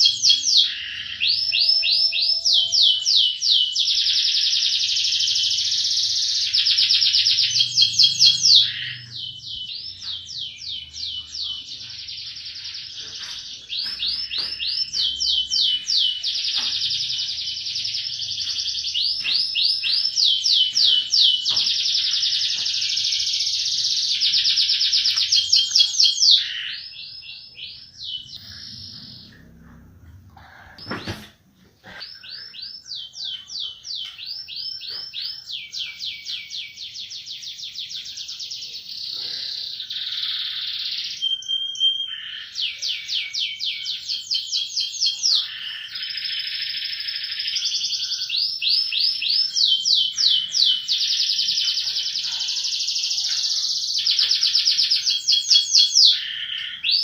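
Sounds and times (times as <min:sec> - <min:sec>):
canary singing trills: 0:00.0 - 0:31.2, 0:31.8 - 0:57.0.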